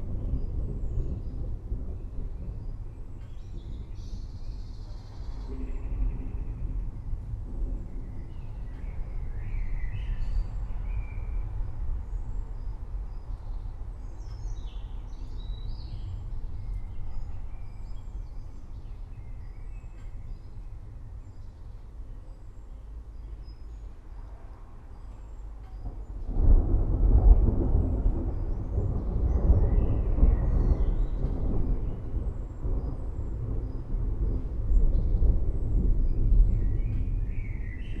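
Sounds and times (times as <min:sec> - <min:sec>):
distant thunder rumbling: 0:00.0 - 0:22.0, 0:25.8 - 0:38.0
forest birds chirping: 0:00.2 - 0:06.7, 0:07.7 - 0:26.3, 0:28.0 - 0:38.0.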